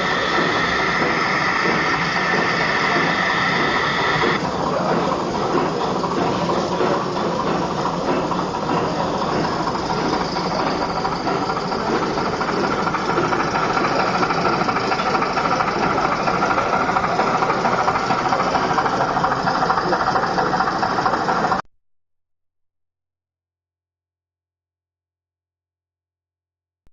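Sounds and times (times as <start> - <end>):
steam engine mechanical clatter: 0.0 - 21.6.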